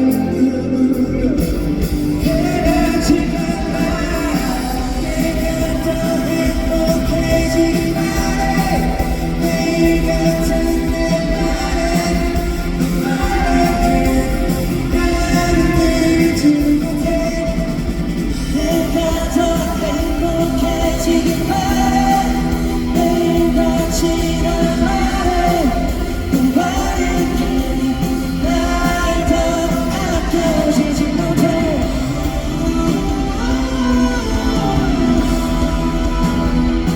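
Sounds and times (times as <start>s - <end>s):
person singing lead vocal: 0.0s - 36.9s
pop-rock band playing: 0.0s - 36.9s.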